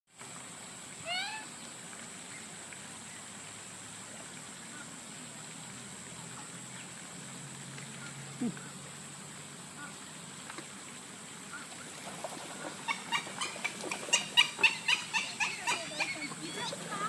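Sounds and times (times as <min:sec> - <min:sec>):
faint background hiss: 0:00.1 - 0:17.0.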